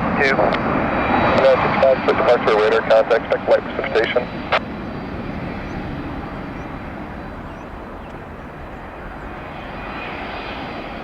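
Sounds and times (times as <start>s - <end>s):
airliner jet engines rushing: 0.0s - 11.0s.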